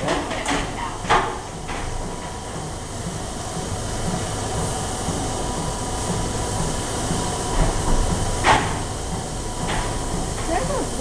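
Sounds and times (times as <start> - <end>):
barn machinery running: 0.0 - 11.0.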